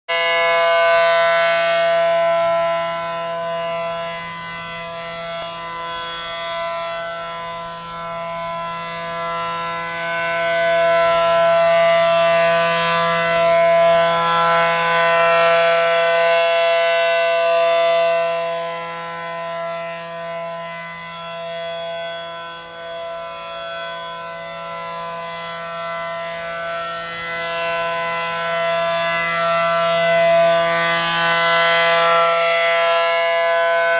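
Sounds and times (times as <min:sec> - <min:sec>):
rotating siren dual-tone wail: 0:00.1 - 0:33.9.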